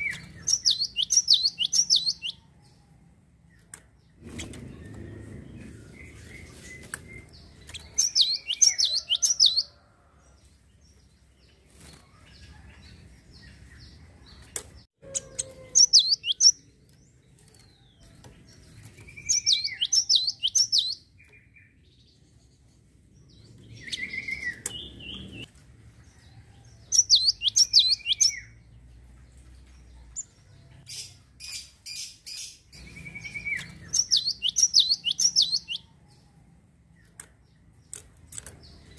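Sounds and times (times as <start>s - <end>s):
sparrow singing: 0.0s - 9.9s, 10.9s - 25.5s, 26.8s - 29.0s, 29.6s - 38.9s.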